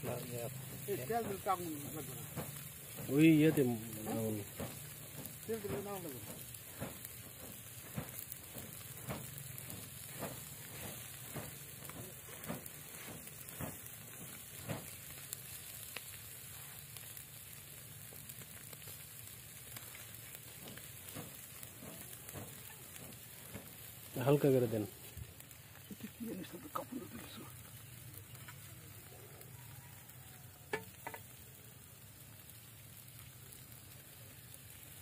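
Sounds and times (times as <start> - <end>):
fish sizzling on grill: 0.0 - 35.0
plate whooshing fanning coals: 0.0 - 35.0.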